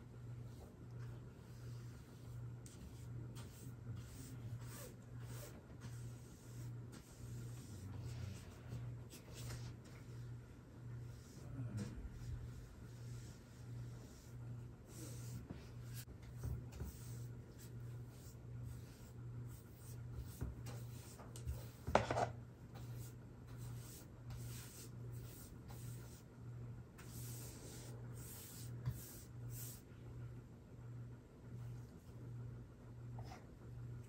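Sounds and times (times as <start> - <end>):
steady low hum: 0.0 - 34.0
paintbrush swishing on a wall: 0.5 - 10.3, 11.0 - 26.2, 27.0 - 29.9.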